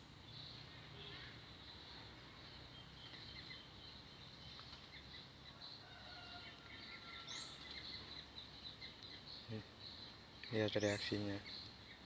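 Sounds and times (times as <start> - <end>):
small bird chirps: 0.2 - 12.0.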